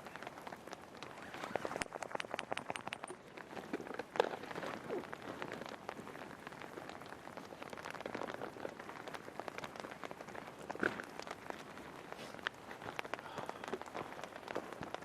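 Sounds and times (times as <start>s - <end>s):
rain hiss: 0.0s - 15.0s
raindrops ticking: 0.0s - 15.0s.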